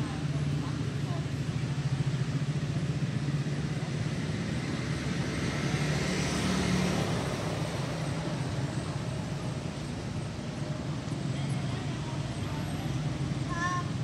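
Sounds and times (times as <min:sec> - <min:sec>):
engine humming: 0:00.0 - 0:14.0
road traffic noise: 0:00.0 - 0:14.0.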